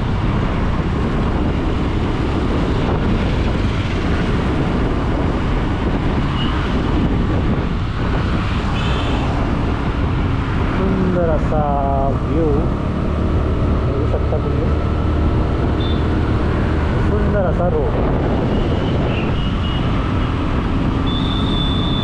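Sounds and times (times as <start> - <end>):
motorcycle engine and tyre noise: 0.0 - 22.0
wind rushing over microphone: 0.0 - 22.0.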